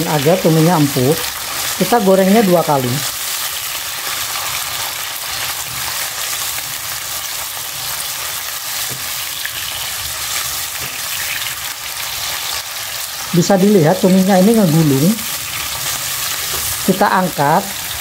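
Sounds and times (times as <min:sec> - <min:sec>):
squid sizzling in oil: 0:00.0 - 0:18.0.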